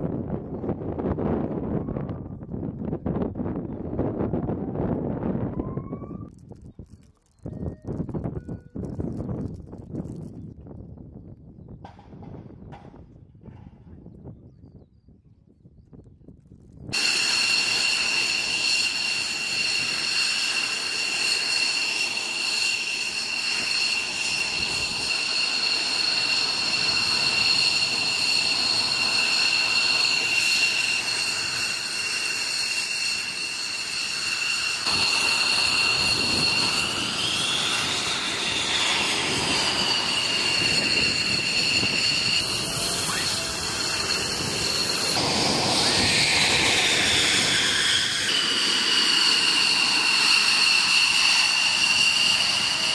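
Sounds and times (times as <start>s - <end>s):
jet engine whine: 0.0s - 10.5s, 16.8s - 52.9s.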